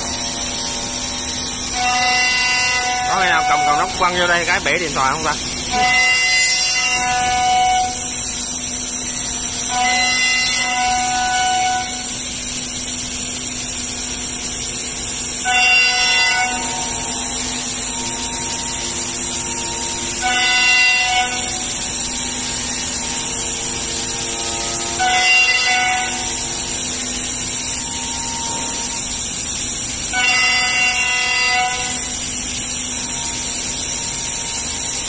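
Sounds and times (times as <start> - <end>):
router cutting wood: 0.0 - 35.0.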